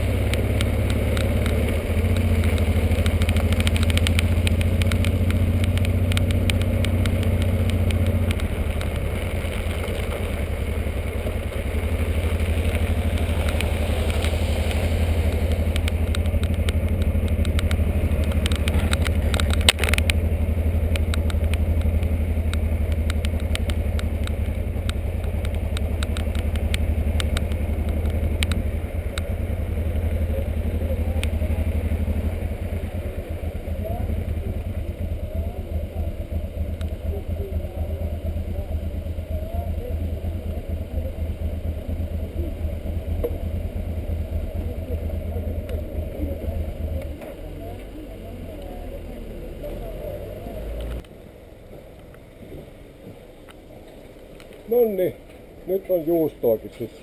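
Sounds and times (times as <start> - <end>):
motorcycle engine running: 0.0 - 52.8.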